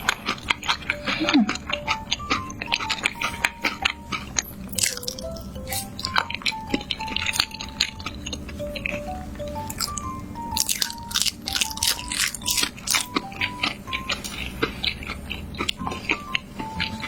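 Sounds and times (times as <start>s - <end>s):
background music melody: 0.0s - 17.0s
crunchy chewing of food: 0.0s - 17.0s.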